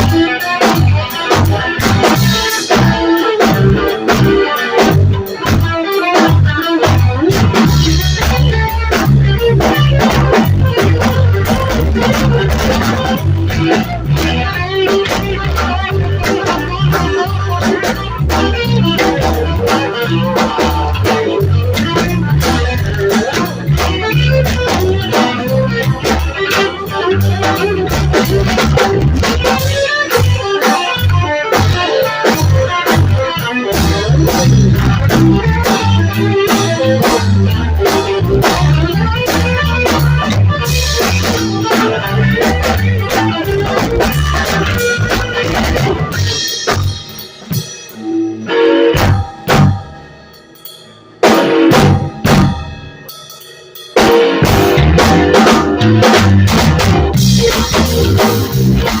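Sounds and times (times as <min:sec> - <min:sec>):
bass guitar: 0:00.0 - 0:59.0
drum kit playing: 0:00.0 - 0:59.0
electric guitar: 0:00.0 - 0:59.0.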